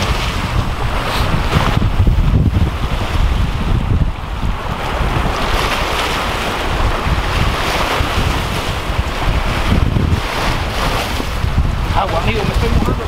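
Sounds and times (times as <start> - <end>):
water breaking against rocks: 0.0 - 13.0
wind buffeting microphone: 0.0 - 13.0.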